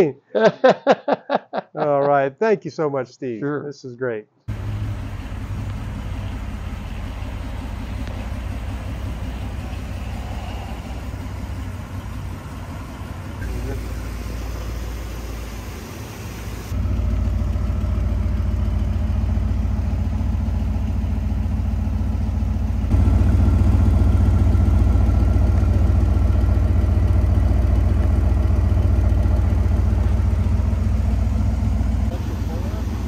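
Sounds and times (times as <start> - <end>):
car engine idling: 4.5 - 33.0.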